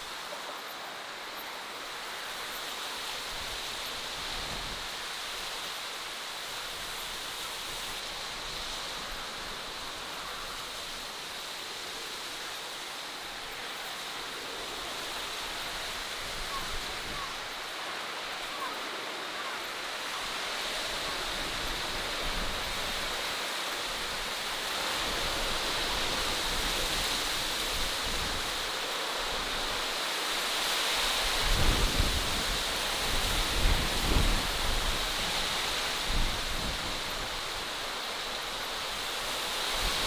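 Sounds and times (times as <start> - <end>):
rushing outdoor ambience: 0.0 - 40.0.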